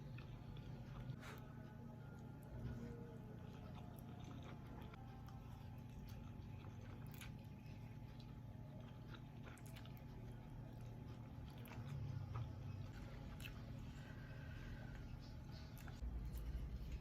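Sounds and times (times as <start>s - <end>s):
close chewing and biting: 0.0s - 17.0s
low steady hum: 0.0s - 17.0s.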